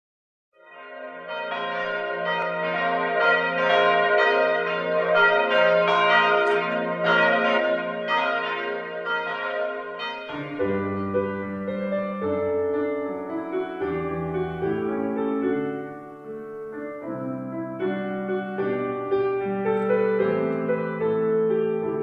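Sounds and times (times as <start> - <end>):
church bells ringing: 0.6 - 16.3, 17.2 - 22.0
piano playing: 0.6 - 22.0.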